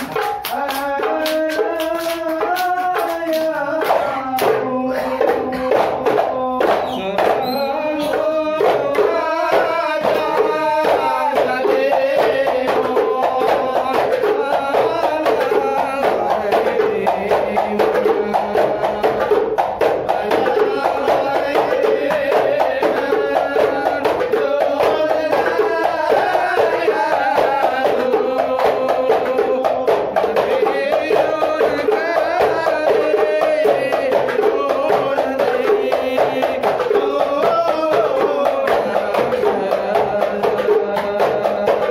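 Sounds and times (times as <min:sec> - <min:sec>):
hand-struck frame drum beats: 0:00.0 - 0:41.9
voices singing together: 0:00.0 - 0:41.9.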